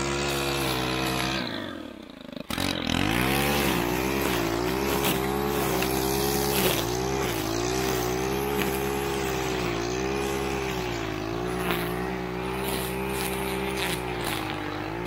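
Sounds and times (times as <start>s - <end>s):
string trimmer engine cutting grass: 0.0s - 15.0s.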